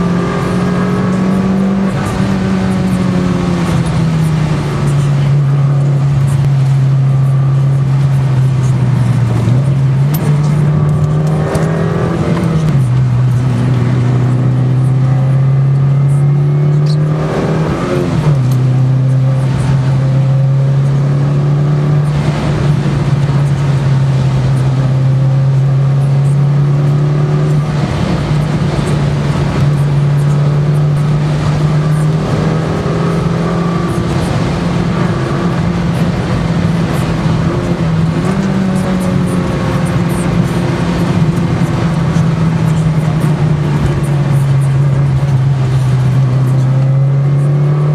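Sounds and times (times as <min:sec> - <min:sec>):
car engine heard from cabin: 0:00.0 - 0:47.9.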